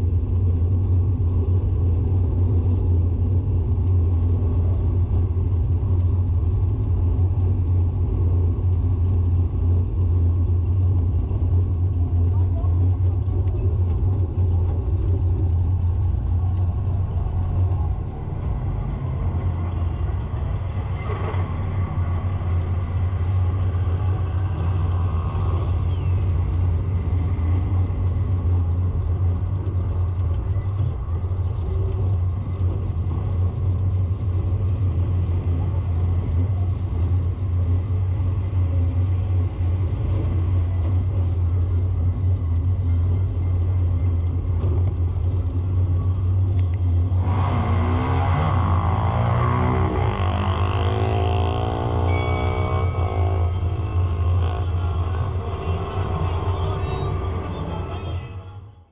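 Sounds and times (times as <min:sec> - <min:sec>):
steady low rumble: 0:00.0 - 0:58.9.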